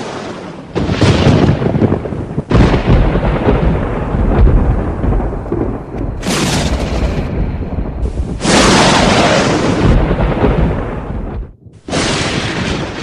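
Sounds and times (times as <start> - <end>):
thunder crashing and rumbling: 0.0 - 13.0.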